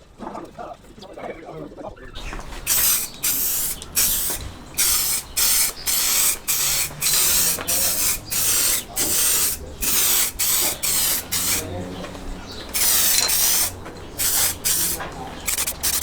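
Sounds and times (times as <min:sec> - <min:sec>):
spray can hissing bursts: 0:02.2 - 0:16.0.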